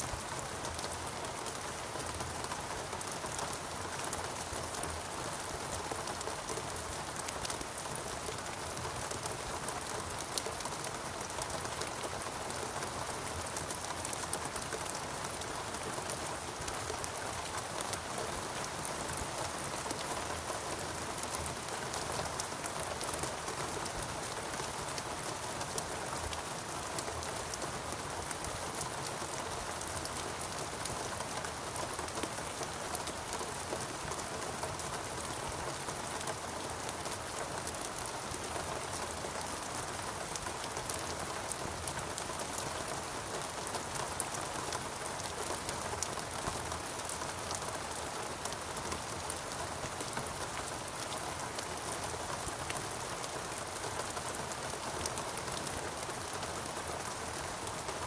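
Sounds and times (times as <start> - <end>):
steady rain falling: 0.0 - 58.0
raindrops pattering: 0.1 - 58.0.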